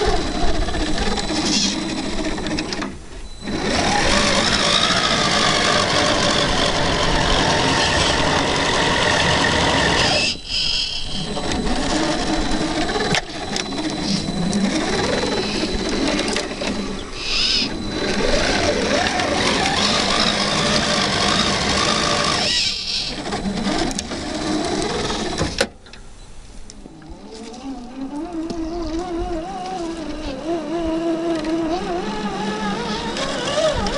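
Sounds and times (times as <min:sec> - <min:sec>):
toy truck electric motors whining: 0:00.0 - 0:25.6, 0:26.8 - 0:33.9.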